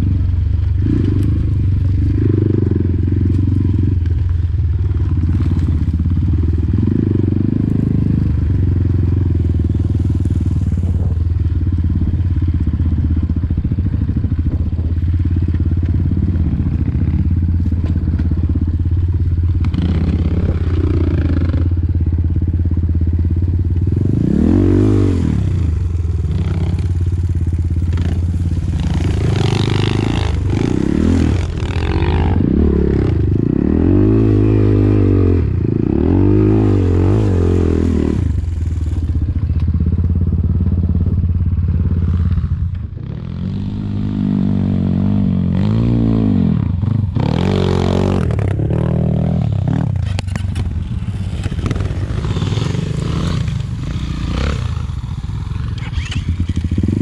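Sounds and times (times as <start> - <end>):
dirt bike engine revving: 0.0 - 4.0, 4.9 - 41.2, 41.8 - 57.0.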